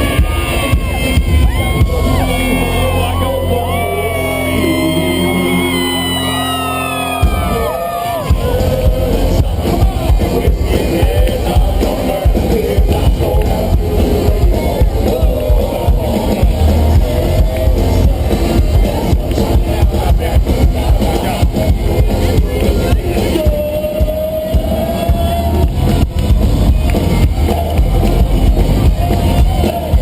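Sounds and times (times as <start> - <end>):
drum kit beat: 0.0 - 3.2, 5.2 - 30.0
live country rock band: 0.0 - 30.0.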